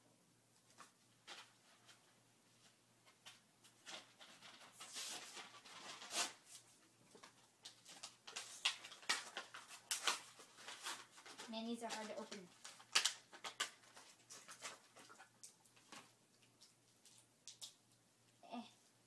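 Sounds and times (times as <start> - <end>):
plastic packaging rustling: 0.7 - 17.8.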